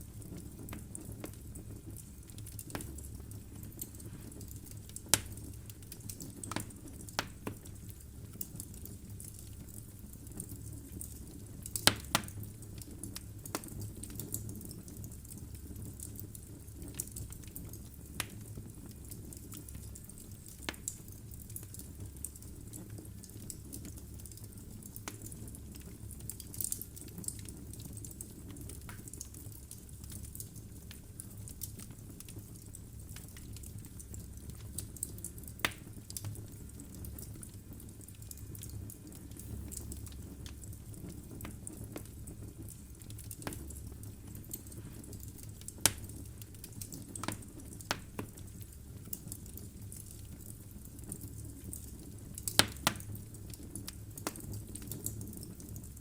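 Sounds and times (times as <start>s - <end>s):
fire flames rumbling: 0.0s - 56.0s
logs crackling and popping: 0.0s - 56.0s.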